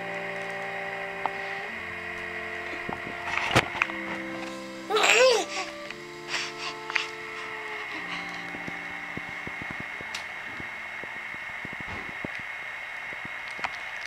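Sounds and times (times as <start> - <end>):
held musical notes: 0.0 - 11.8
high whine: 0.0 - 14.0
steady background hum: 0.0 - 14.0.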